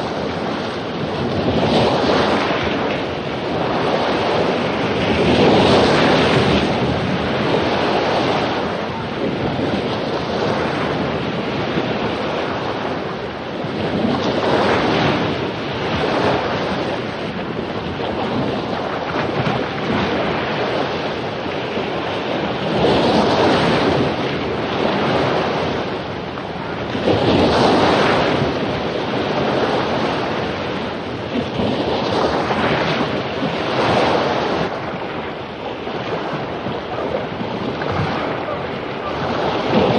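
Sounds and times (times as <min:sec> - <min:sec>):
ocean waves crashing on beach: 0:00.0 - 0:39.9
wind buffeting microphone: 0:00.0 - 0:39.9.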